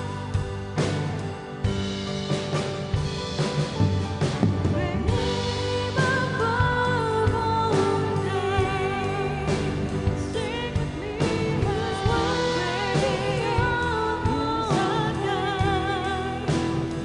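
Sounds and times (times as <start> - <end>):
worship band playing: 0.0 - 17.0.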